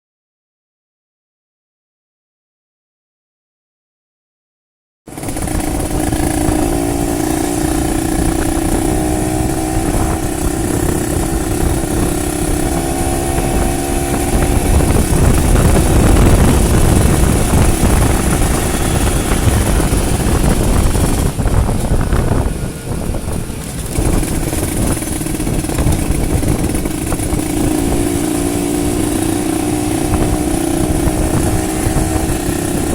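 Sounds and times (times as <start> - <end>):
motorcycle engine running: 5.1 - 32.9.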